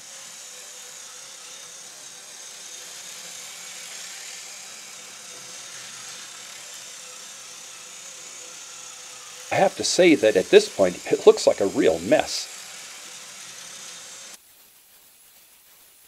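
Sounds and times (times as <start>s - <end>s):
machine whirring: 0.0s - 14.4s.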